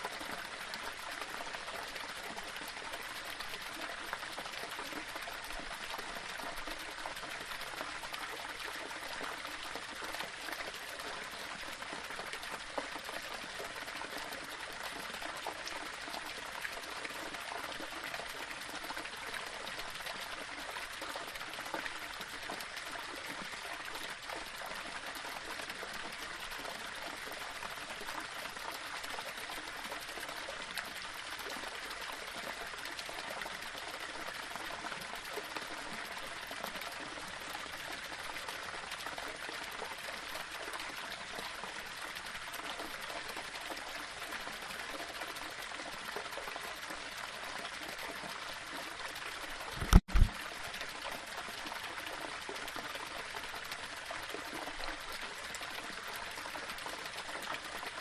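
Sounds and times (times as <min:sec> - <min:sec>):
small waterfall over stones: 0:00.0 - 0:58.0.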